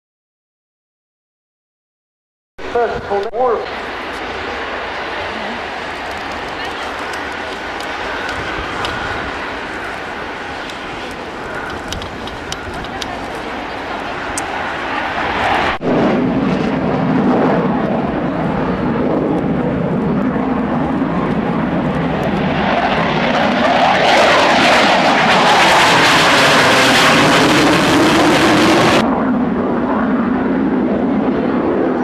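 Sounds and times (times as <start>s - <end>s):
jet flying by: 2.6s - 32.0s.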